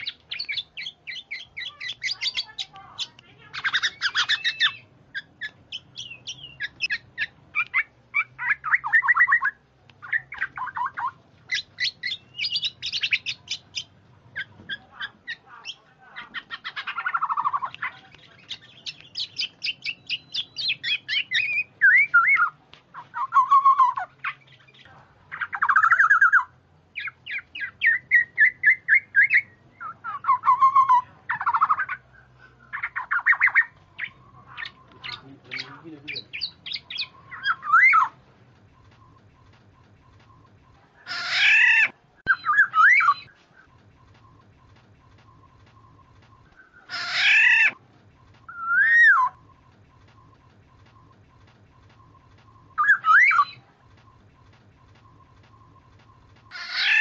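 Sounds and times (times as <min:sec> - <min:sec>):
bird chattering calls: 0:00.0 - 0:57.0
harsh falling bird calls: 0:00.0 - 0:57.0.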